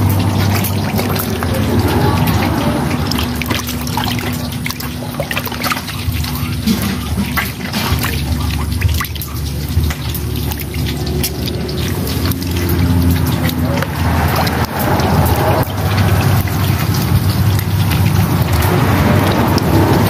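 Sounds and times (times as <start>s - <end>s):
steady low hum: 0.0s - 20.0s
water splashing in a plastic tub: 0.0s - 20.0s.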